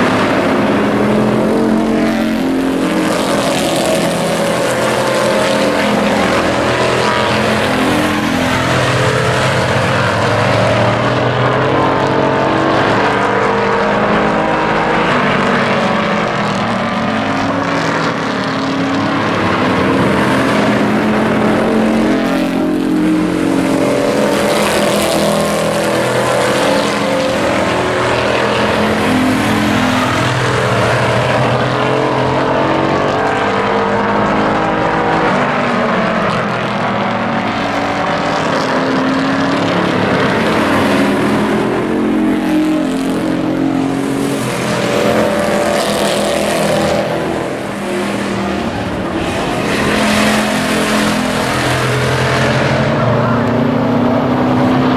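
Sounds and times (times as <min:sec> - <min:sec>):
race truck engines: 0:00.0 - 0:54.9.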